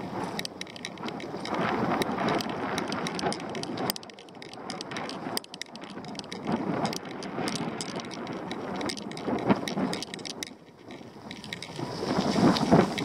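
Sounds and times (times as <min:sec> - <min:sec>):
bike rattling: 0:00.0 - 0:13.0
tyres crackling on gravel: 0:00.0 - 0:13.0
wind rushing noise: 0:00.0 - 0:13.0
sharp clicks: 0:00.2 - 0:13.0.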